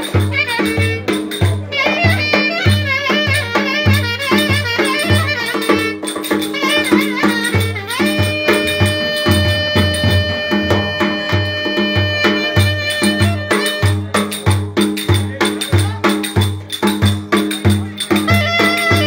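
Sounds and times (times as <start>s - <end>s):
ornamented folk melody instrument: 0.0s - 19.0s
rattling percussion: 0.0s - 19.0s
steady drum beat: 0.0s - 19.0s.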